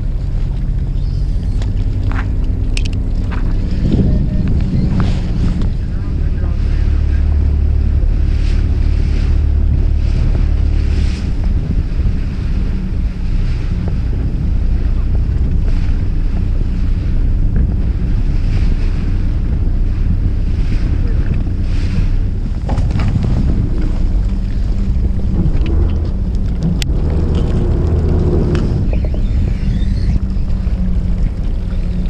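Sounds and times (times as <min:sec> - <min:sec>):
boat engine running: 0:00.0 - 0:32.0
waves washing against hull: 0:00.0 - 0:32.0
wind buffeting microphone: 0:00.0 - 0:32.0.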